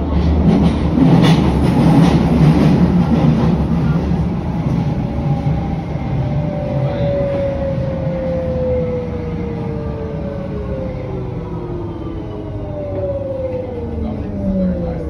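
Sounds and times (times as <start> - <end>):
train drive whine: 0.0 - 15.0
train wheels rumbling on rails: 0.0 - 15.0.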